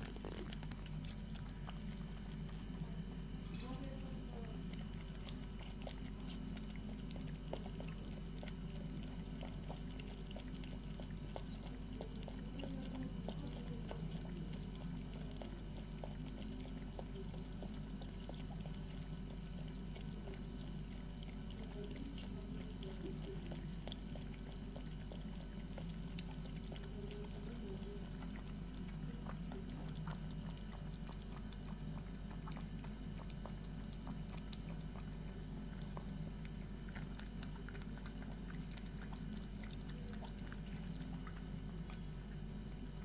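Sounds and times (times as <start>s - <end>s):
cats lapping milk: 0.0s - 43.0s
constant low hum: 0.0s - 43.0s.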